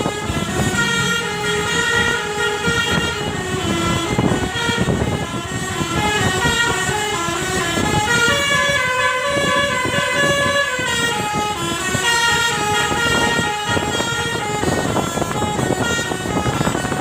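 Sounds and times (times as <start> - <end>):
multi-tone bus horn melody: 0.0 - 17.0.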